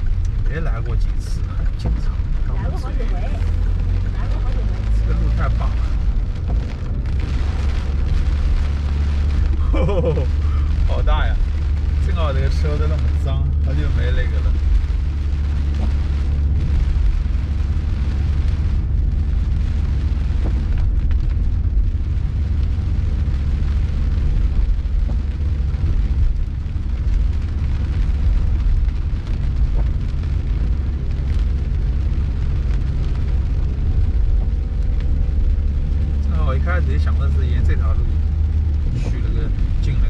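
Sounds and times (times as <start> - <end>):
car driving on wet road: 0.0 - 40.0
heavy rain on car roof: 0.0 - 40.0.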